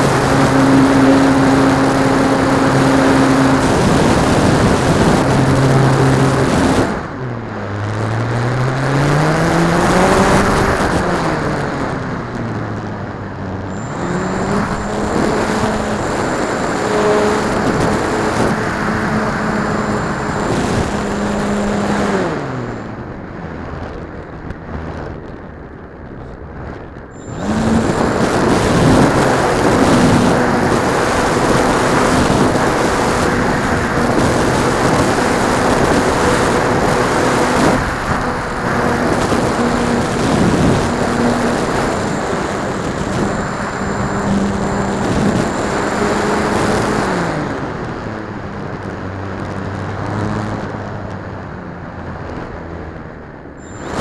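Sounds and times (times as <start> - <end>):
electric motor propeller whine: 0.0 - 12.7, 13.6 - 23.9, 27.0 - 50.5, 52.9 - 54.0
wind noise: 0.0 - 54.0.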